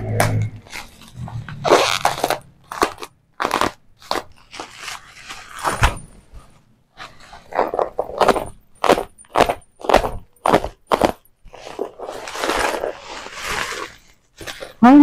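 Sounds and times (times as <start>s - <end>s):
bubble wrap crinkling: 0.1s - 6.0s, 7.0s - 15.0s.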